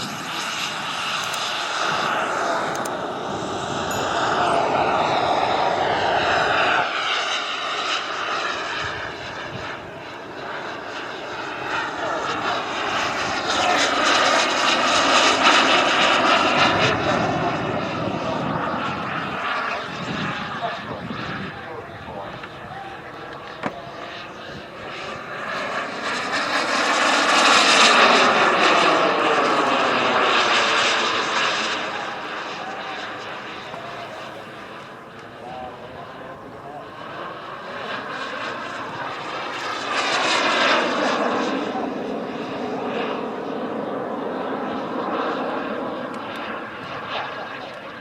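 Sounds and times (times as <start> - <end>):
model jet engine rushing whine: 0.0 - 48.0.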